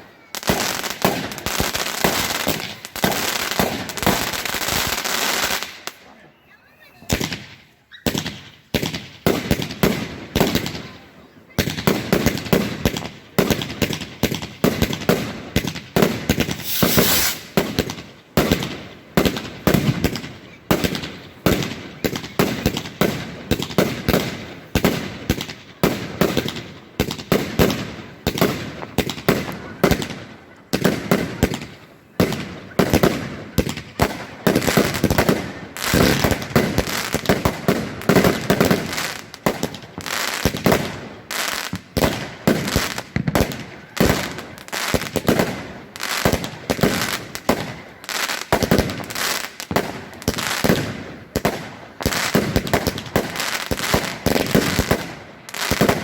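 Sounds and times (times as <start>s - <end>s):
fireworks barrage of bangs: 0.0s - 6.0s, 7.1s - 56.0s
fireworks crackle: 0.0s - 6.1s, 11.6s - 56.0s.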